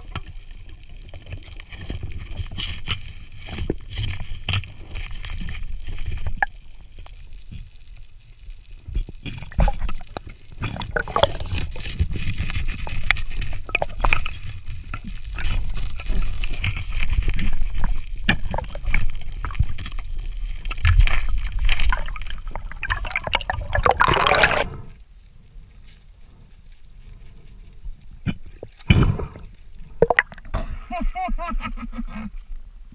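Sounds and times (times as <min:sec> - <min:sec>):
water sloshing and gurgling: 0:00.0 - 0:25.0, 0:27.4 - 0:30.7.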